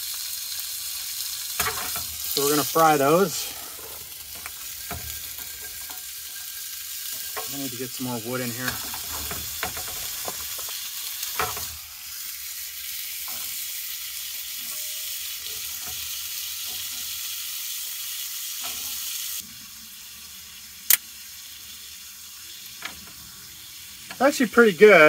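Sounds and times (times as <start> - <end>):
sausage sizzling in skillet: 0.0 - 25.0.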